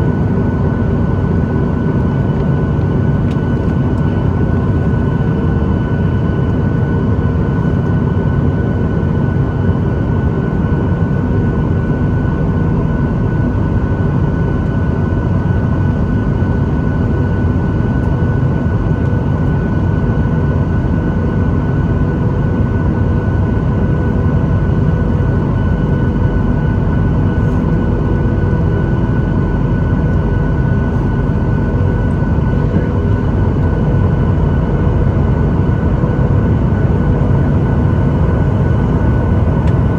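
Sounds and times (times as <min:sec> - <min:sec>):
jet airliner rumble and whine: 0:00.0 - 0:39.9.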